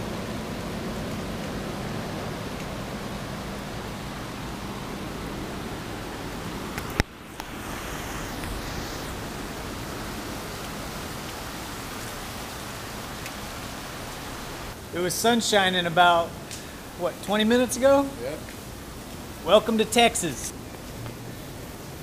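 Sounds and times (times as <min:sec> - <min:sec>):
heavy rain on pavement: 0:00.0 - 0:22.0.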